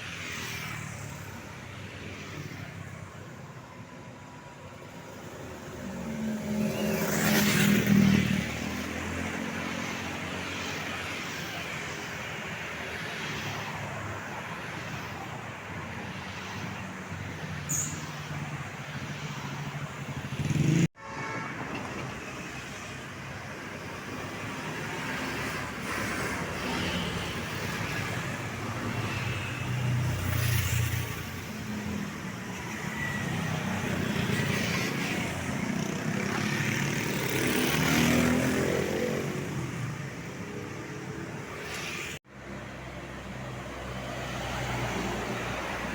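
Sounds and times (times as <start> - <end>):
vehicles passing: 0.0 - 45.9.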